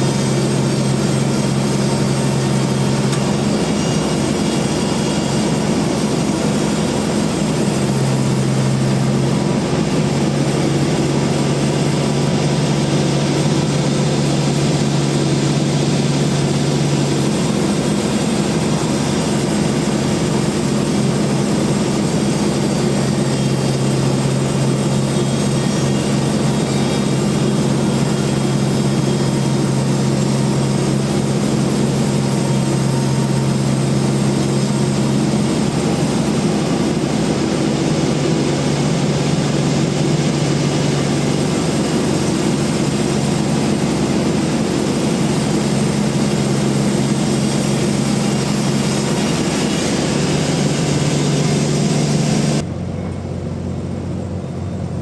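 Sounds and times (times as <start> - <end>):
sawmill machine hum: 0.0 - 55.0.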